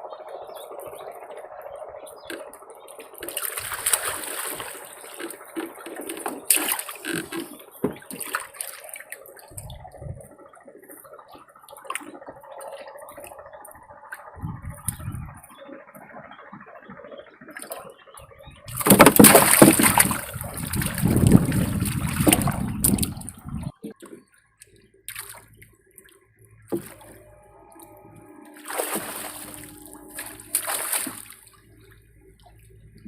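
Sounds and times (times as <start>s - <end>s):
water splashing and sloshing: 2.1s - 33.0s.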